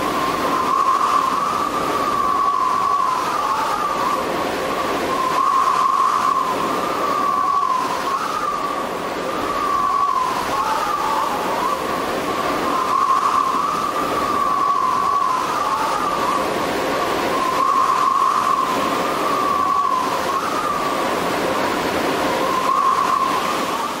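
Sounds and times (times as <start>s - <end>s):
blower air rush with whine: 0.0s - 24.0s.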